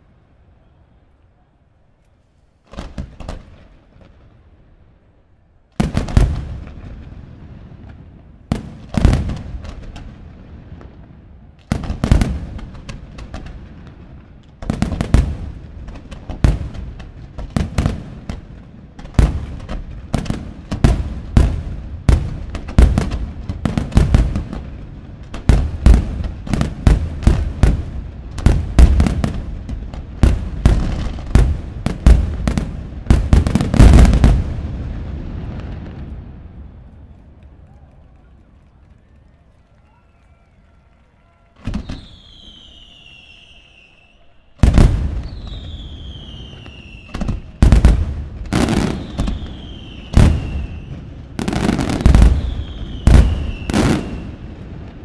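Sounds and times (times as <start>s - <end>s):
firework booms: 2.6s - 4.8s, 5.7s - 37.2s, 41.6s - 55.0s
firework crackle: 5.7s - 37.8s, 41.5s - 55.0s.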